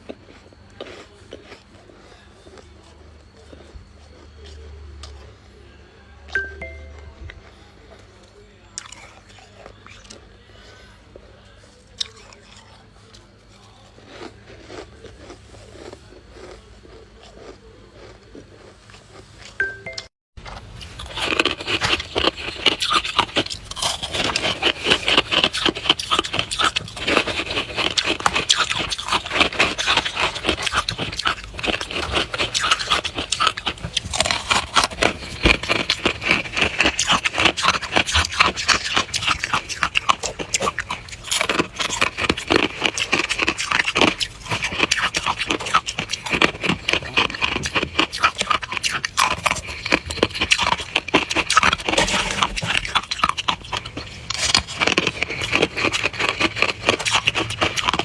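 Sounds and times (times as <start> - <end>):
frost being chewed crunching: 0.0 - 58.0.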